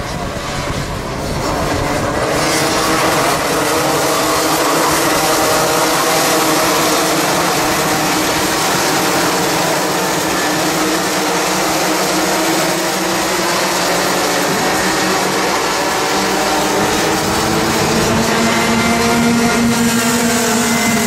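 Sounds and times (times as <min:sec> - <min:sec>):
kart engines buzzing: 0:00.0 - 0:21.0.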